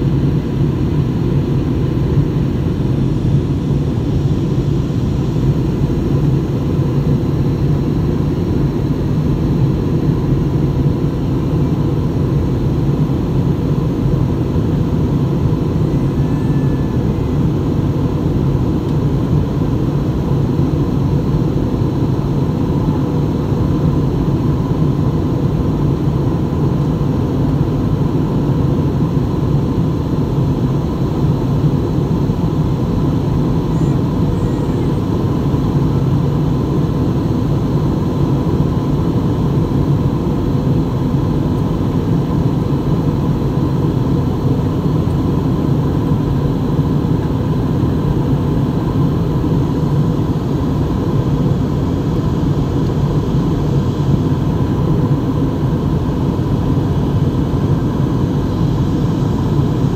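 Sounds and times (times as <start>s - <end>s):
faint steady whine: 0.0s - 59.9s
jet engines and airflow rushing: 0.0s - 59.9s.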